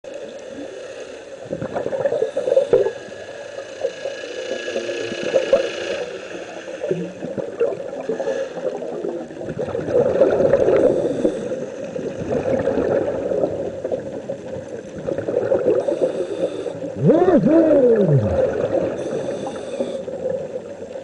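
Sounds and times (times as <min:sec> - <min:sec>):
underwater bubbling and gurgling: 0:00.1 - 0:21.0.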